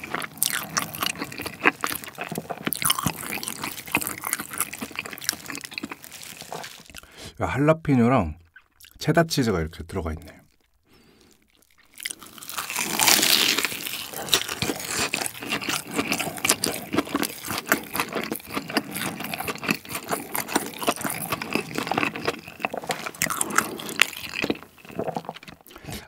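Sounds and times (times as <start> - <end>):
crunchy bite into breaded food: 0.0 - 7.1, 10.5 - 26.0
crunchy chewing: 0.0 - 7.2, 10.2 - 26.0.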